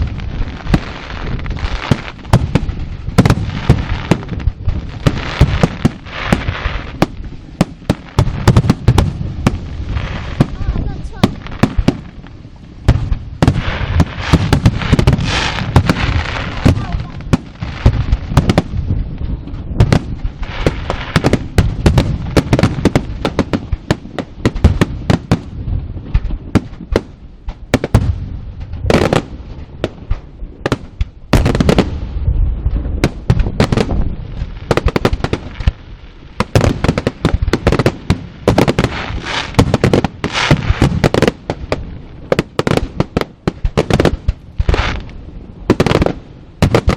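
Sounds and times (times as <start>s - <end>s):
deep rumble: 0.0s - 46.8s
fireworks cracks and bangs: 0.0s - 46.9s.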